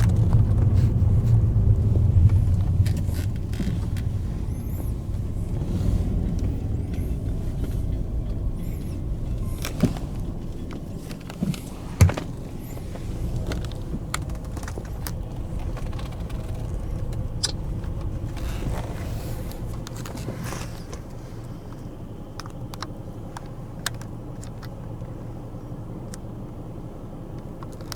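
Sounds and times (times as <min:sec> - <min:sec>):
low steady rumble: 0:00.0 - 0:27.9.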